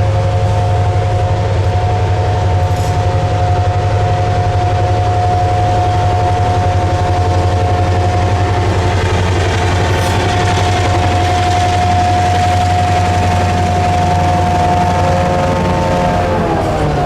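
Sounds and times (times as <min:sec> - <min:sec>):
high-pitched whine: 0:00.0 - 0:17.0
locomotive engine drone: 0:00.0 - 0:17.0.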